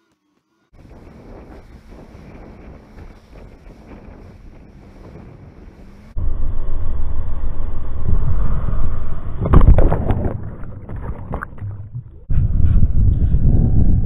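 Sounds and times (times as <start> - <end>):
wind rushing over microphone: 0.8 - 10.6, 12.2 - 14.0.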